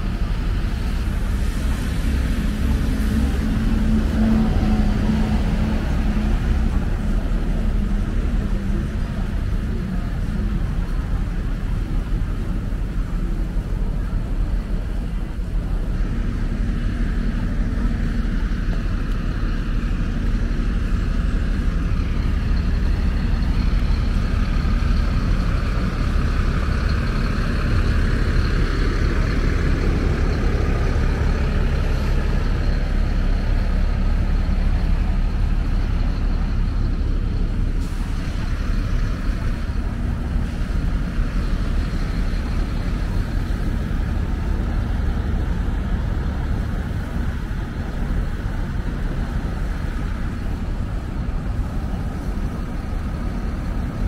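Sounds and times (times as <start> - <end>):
low rumble of street traffic: 0.0 - 54.0.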